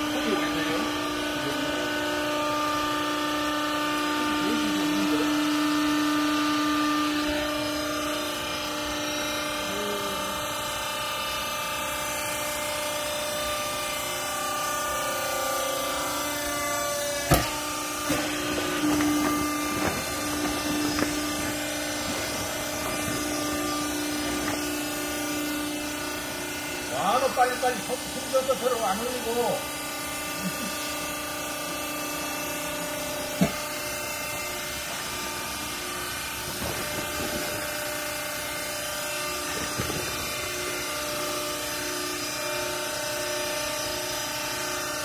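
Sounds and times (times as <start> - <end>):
hydraulic pump motor humming: 0.0 - 45.0.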